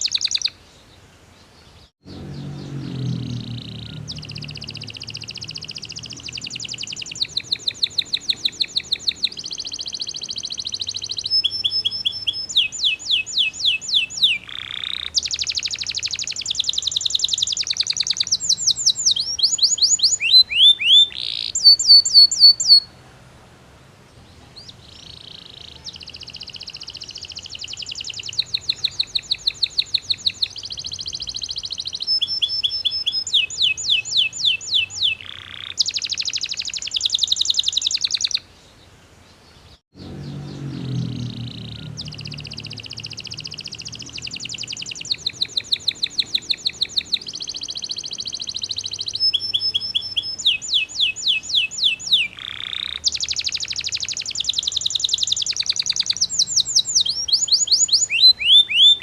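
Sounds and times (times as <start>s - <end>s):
canary singing trills: 0.0s - 0.6s, 1.6s - 22.9s, 24.6s - 38.5s, 39.6s - 59.0s.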